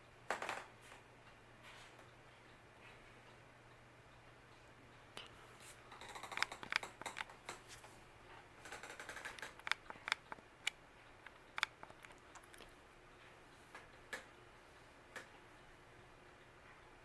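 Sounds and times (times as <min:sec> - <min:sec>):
ceiling fan clicking and ticking: 0:00.0 - 0:17.0
ceiling fan humming: 0:00.0 - 0:17.0.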